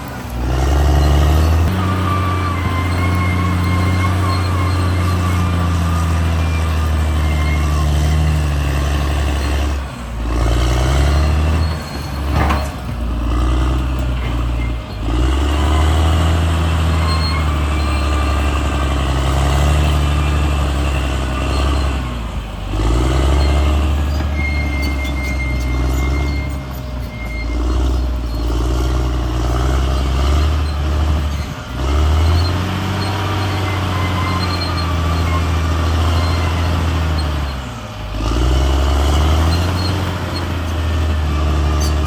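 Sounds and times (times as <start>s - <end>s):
bulldozer diesel engine under load: 0.0s - 42.0s.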